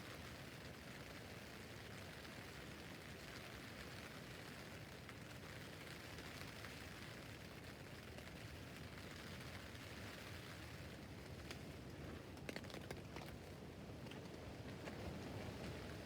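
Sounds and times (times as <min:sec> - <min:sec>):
rain pattering on tent roof: 0:00.0 - 0:16.0.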